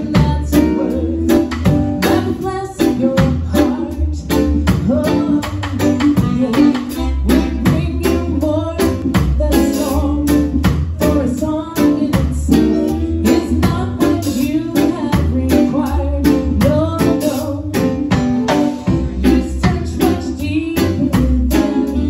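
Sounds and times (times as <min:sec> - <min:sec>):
woman singing lead vocal: 0:00.0 - 0:18.1, 0:19.0 - 0:22.0
drum kit beat: 0:00.0 - 0:22.0
guitar: 0:00.0 - 0:22.0
keyboard: 0:00.0 - 0:22.0.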